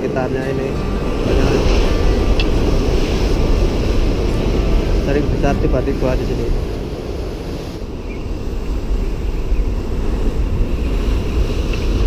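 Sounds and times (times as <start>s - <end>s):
heavy surf breaking on concrete: 0.0s - 12.0s
wind rumbling on microphone: 0.0s - 12.0s.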